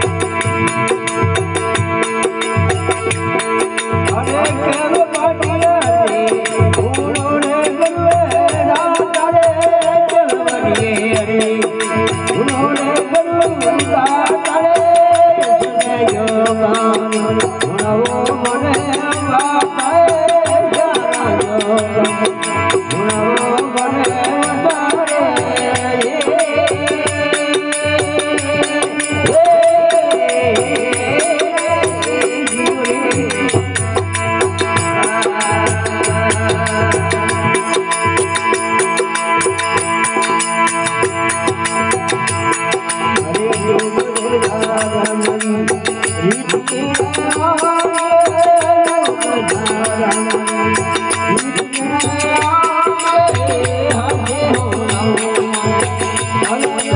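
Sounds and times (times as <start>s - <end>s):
devotional folk music: 0.0s - 56.9s
fast jingling rattle beat: 0.0s - 56.9s.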